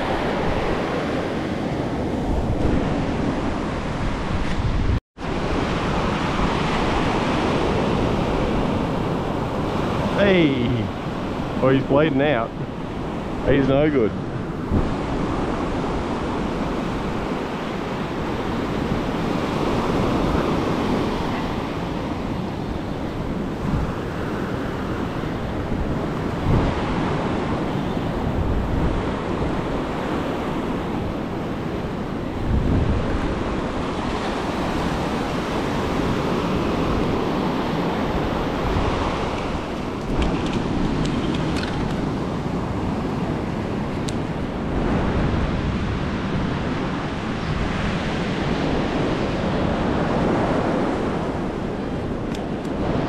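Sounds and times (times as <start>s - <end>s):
ocean surf washing up beach: 0.0s - 53.0s
wind buffeting microphone: 0.0s - 53.0s.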